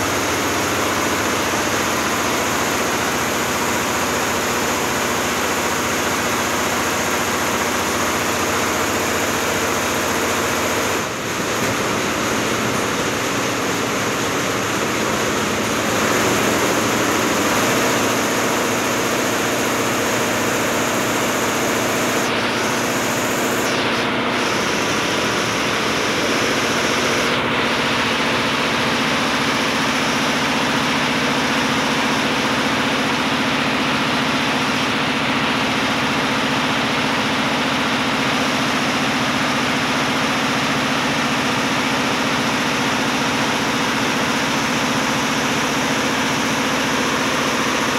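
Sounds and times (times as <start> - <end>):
embroidery machine running: 0.0 - 47.9.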